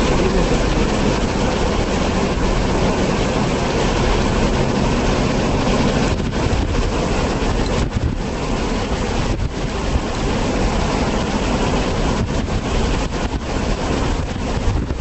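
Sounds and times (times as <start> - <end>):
off-road vehicle running: 0.0 - 15.0
wind buffeting microphone: 0.0 - 15.0.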